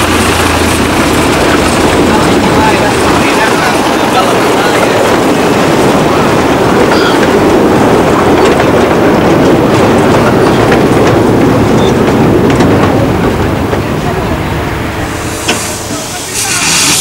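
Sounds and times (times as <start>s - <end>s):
miniature train rumbling: 0.0s - 17.0s.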